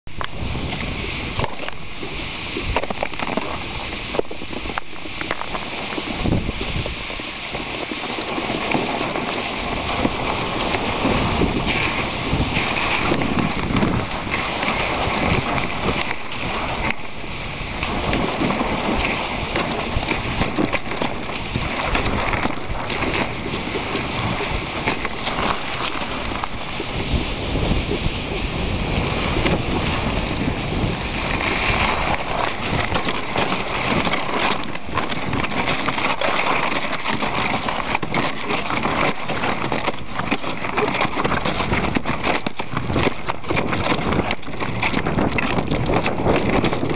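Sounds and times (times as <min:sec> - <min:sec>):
sled runners scraping on ice: 0:00.1 - 0:46.9.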